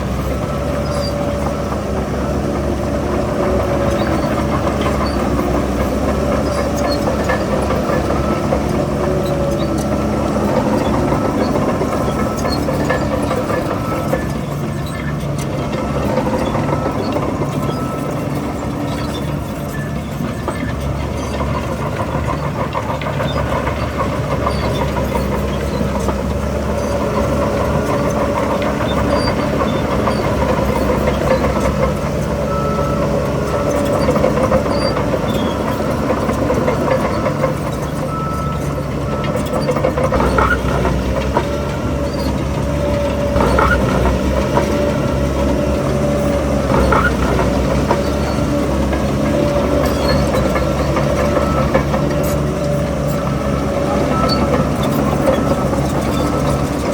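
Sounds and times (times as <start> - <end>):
bulldozer diesel engine running: 0.0 - 56.9
steel tracks clanking and squealing: 0.0 - 56.9.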